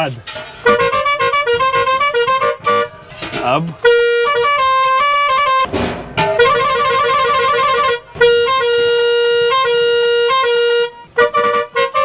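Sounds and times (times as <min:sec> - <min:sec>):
musical air horns playing a tune: 0:00.3 - 0:12.0.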